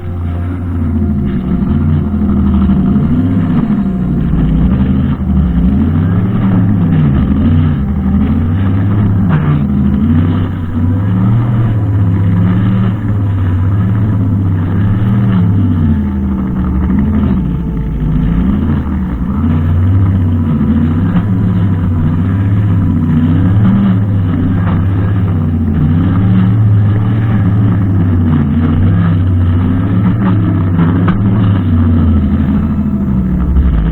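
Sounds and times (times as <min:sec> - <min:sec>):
brushcutter engine running: 0:00.0 - 0:33.9.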